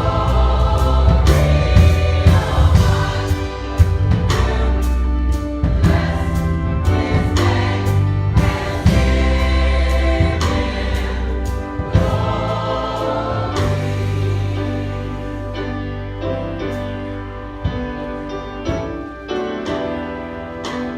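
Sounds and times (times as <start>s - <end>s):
deep bass line: 0.0s - 18.6s
choir singing gospel: 0.0s - 20.9s.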